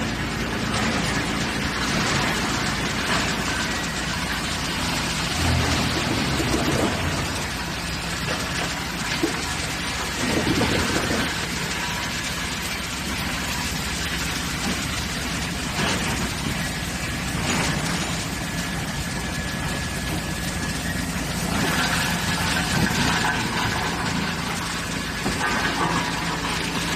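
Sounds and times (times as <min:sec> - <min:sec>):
wood chipper running: 0:00.0 - 0:26.9.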